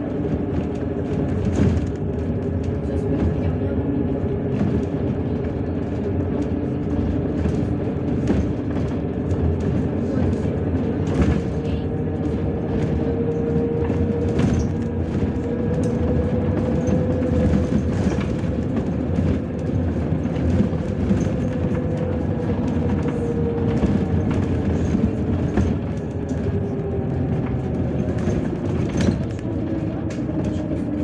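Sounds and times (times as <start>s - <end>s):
bus body rattles and knocks: 0.0s - 31.0s
bus engine and road rumble: 0.0s - 31.0s.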